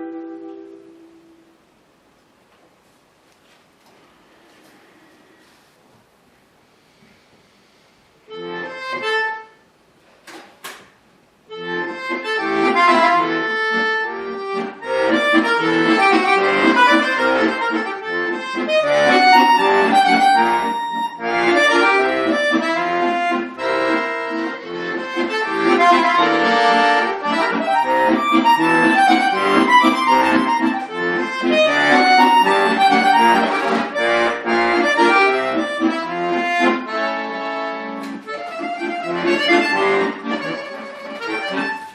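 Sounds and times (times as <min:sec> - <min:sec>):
accordion music: 0:00.0 - 0:01.6, 0:07.6 - 0:09.8, 0:11.2 - 0:41.9.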